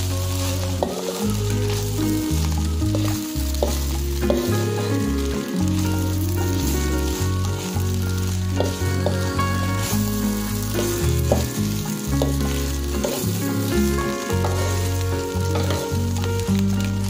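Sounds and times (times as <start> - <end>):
spatula scraping a wok: 0.0 - 16.4
background music with bass line: 0.0 - 17.0
rice sizzling in a wok: 0.0 - 17.0.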